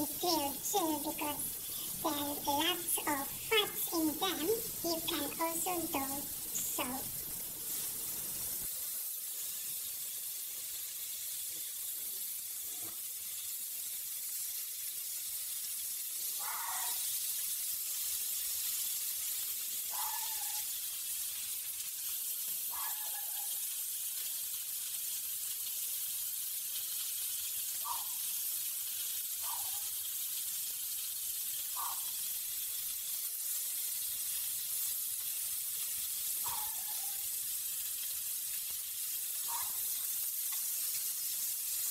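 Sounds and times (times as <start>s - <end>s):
meat sizzling on a grill pan: 0.0s - 41.9s.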